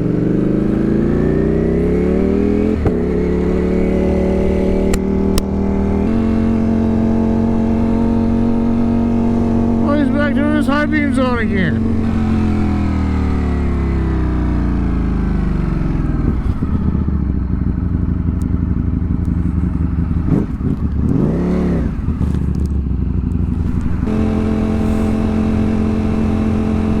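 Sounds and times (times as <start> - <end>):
motorcycle engine: 0.0 - 27.0.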